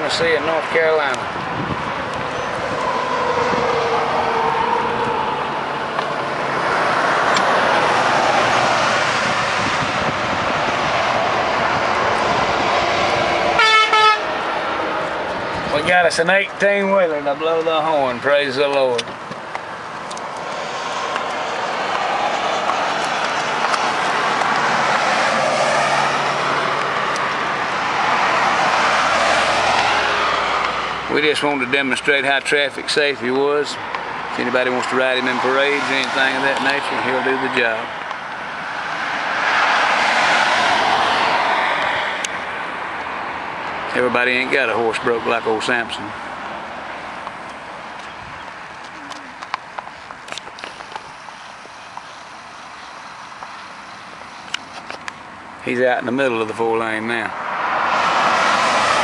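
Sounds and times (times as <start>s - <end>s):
highway traffic passing: 0.0s - 59.0s.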